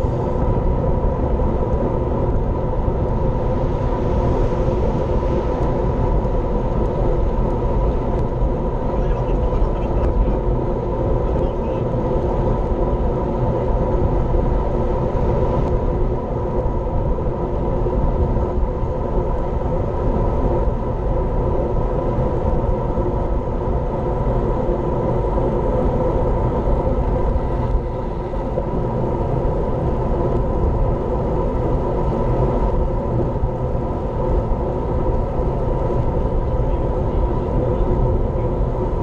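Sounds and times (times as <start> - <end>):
wind rumble on microphone: 0.0 - 39.0.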